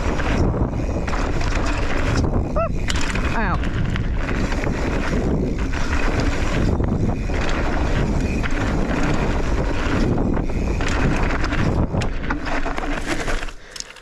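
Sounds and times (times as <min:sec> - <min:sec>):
wind rushing over microphone: 0:00.0 - 0:12.9
bike knocks and rattles: 0:00.0 - 0:14.0
tyres rumbling over dirt: 0:00.0 - 0:14.0.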